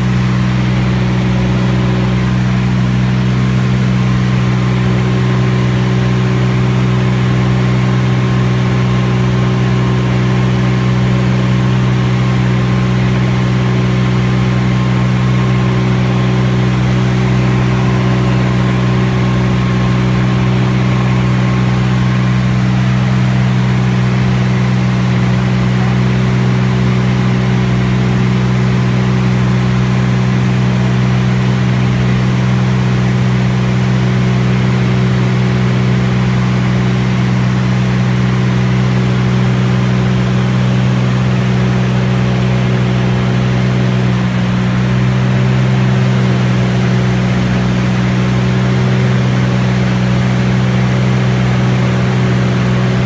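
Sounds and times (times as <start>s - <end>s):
airplane engine and propeller drone: 0.0s - 53.0s.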